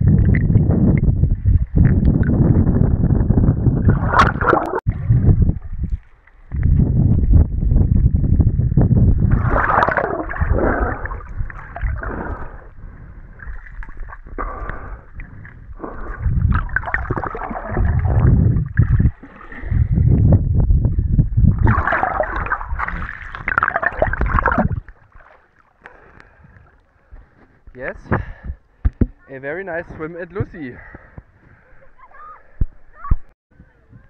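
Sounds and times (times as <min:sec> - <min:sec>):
muffled underwater water sloshing: 0:00.0 - 0:29.2.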